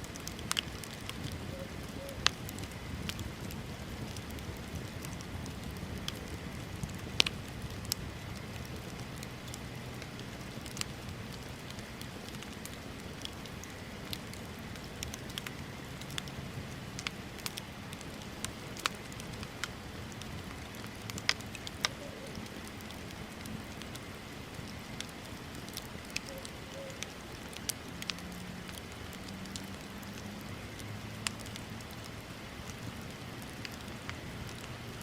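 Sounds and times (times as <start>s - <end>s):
bonfire crackling and popping: 0.0s - 35.0s
low rush of burning fire: 0.0s - 35.0s.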